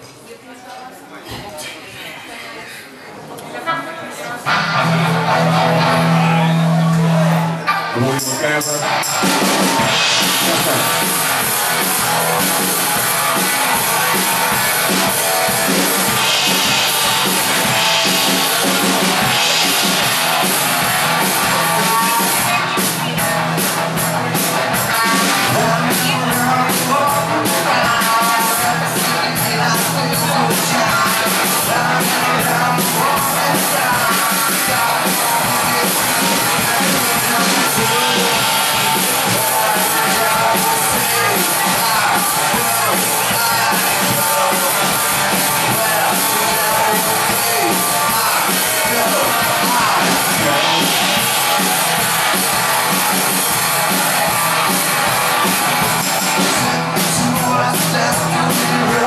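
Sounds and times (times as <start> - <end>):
rock band playing live: 4.4 - 59.0.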